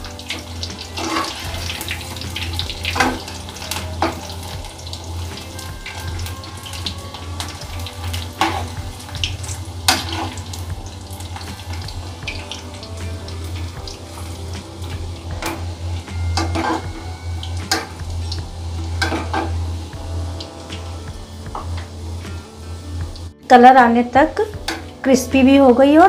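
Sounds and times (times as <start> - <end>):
oil bubbling and crackling: 0.0 - 23.3.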